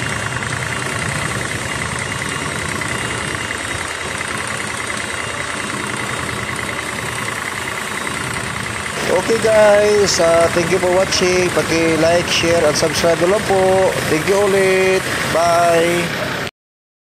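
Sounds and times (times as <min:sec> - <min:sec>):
plunger pump running with pulsing: 0:00.0 - 0:16.5.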